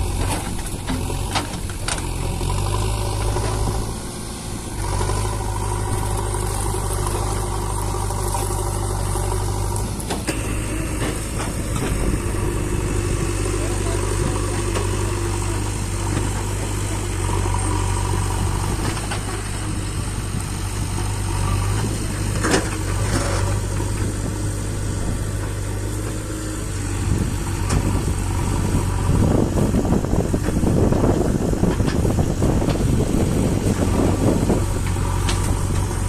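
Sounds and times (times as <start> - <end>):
excavator engine running: 0.0 - 36.0.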